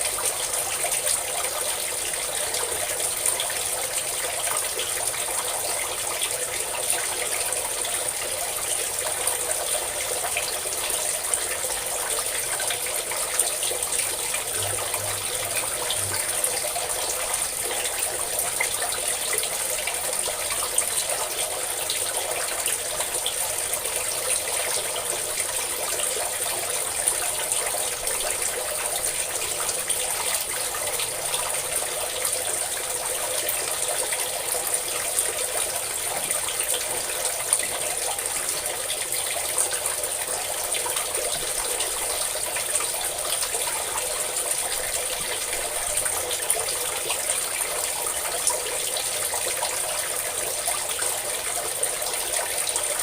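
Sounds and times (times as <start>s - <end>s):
water drips: 0.0s - 53.0s
water pouring and splashing: 0.0s - 53.0s.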